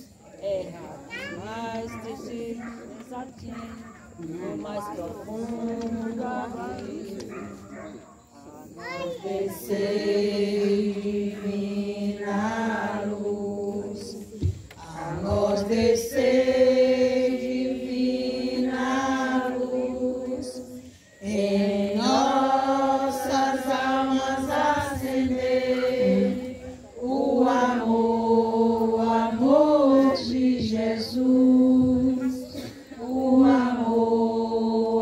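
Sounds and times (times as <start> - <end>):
women singing a hymn: 0.0 - 8.6, 9.2 - 35.0.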